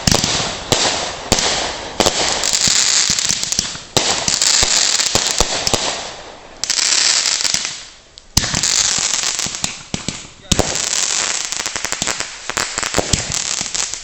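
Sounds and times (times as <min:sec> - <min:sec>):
fireworks hissing crackle: 0:00.0 - 0:14.0.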